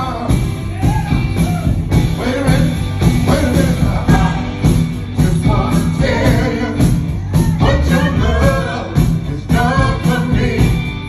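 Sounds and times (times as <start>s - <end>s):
live rock band playing: 0.0s - 11.0s
person singing: 0.0s - 11.0s.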